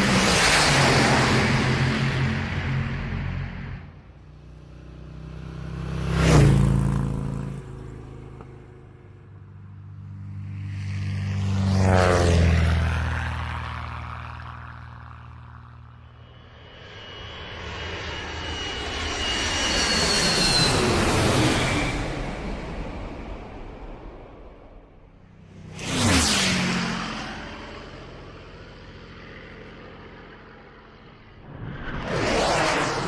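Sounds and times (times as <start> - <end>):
engine with high whistling tones: 0.0 - 33.0
propeller aircraft passing: 0.0 - 33.0.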